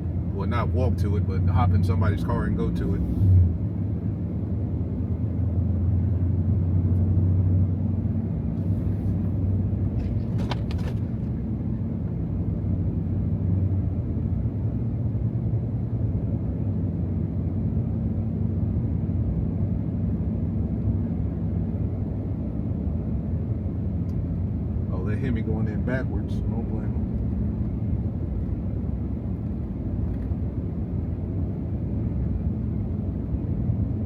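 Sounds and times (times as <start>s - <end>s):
road and tyre noise: 0.0s - 34.0s.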